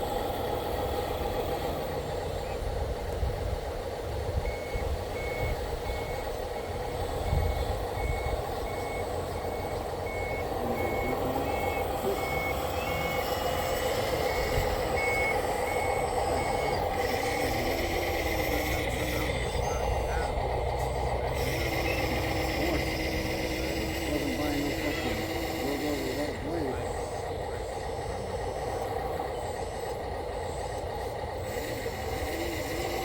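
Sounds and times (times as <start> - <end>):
mechanical drone: 0.0 - 33.0
high reverse warning beeps: 4.1 - 33.0.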